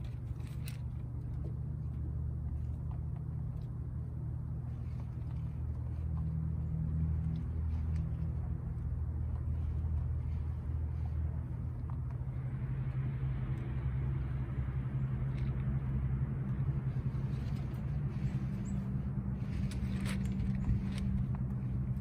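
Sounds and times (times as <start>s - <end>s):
motor engine humming: 0.0s - 22.0s.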